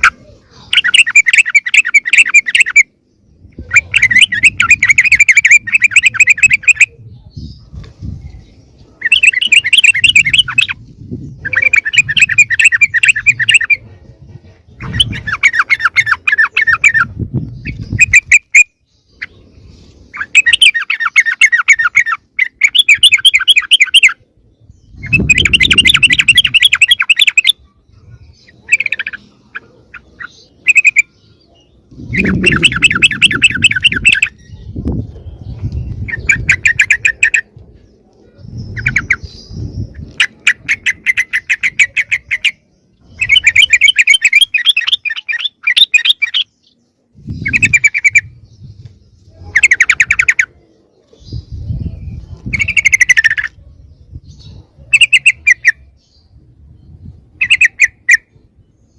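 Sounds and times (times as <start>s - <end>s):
bird scolding chatter: 0.0s - 24.2s, 24.9s - 48.4s, 49.1s - 53.6s, 54.2s - 55.8s.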